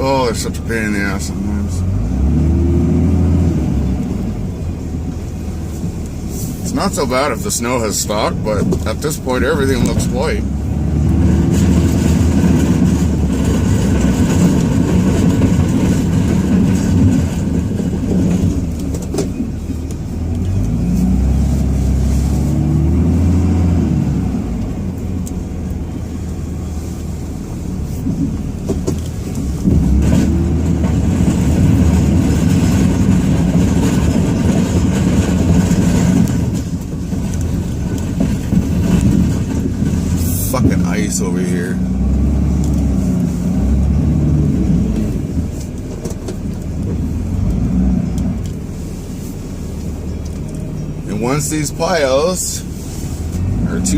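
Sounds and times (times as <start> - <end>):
diesel engine revving: 0.0 - 53.9.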